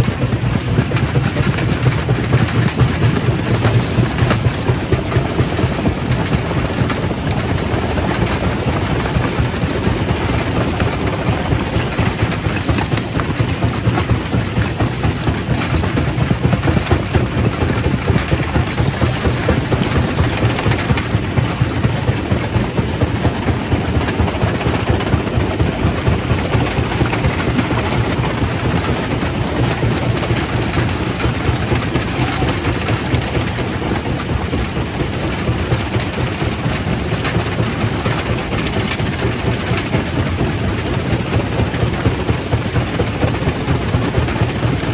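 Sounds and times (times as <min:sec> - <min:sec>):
rock crusher rumbling: 0:00.2 - 0:44.9.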